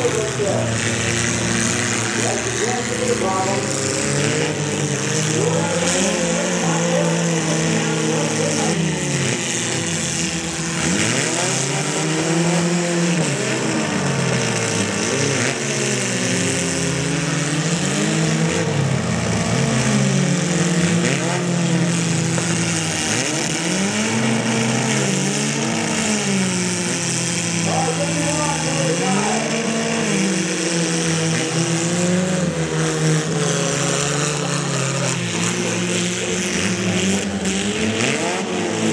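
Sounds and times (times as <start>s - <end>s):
small car engines revving: 0.0s - 38.9s.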